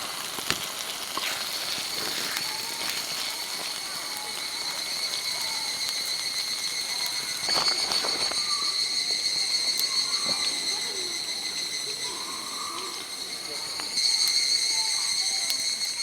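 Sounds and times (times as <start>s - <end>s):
campfire crackling and popping: 0.0s - 15.9s
insects chorus: 0.0s - 16.0s.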